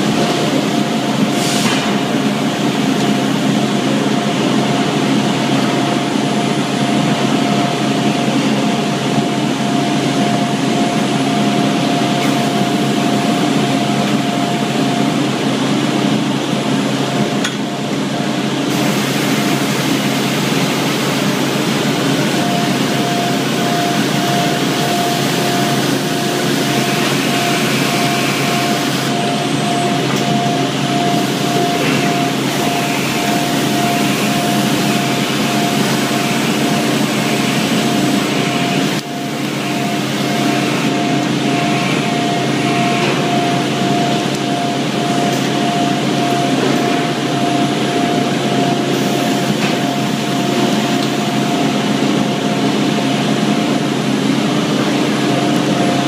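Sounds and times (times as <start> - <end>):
cotton gin machinery roaring: 0.0 - 56.0.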